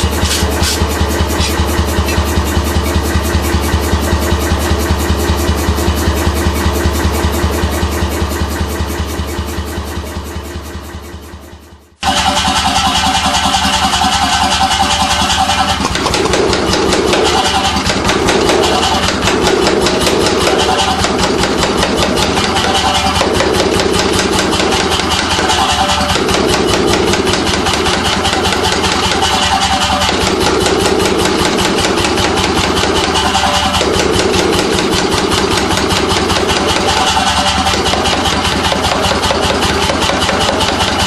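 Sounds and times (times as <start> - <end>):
air hammer striking: 0.0 - 8.2, 12.0 - 41.0.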